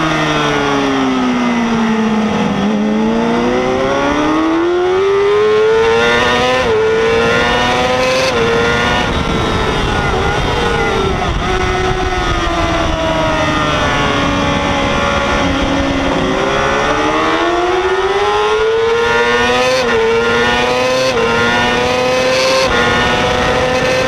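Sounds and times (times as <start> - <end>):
motorcycle engine revving: 0.0 - 24.0
wind noise: 0.0 - 24.0.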